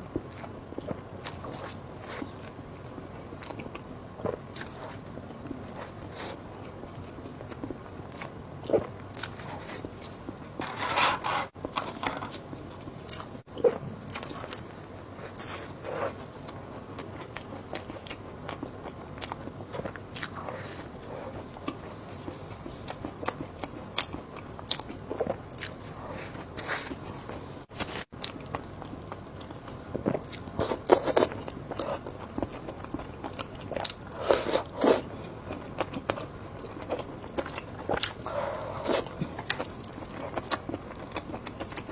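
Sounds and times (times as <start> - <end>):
person eating and chewing: 3.2 - 41.9.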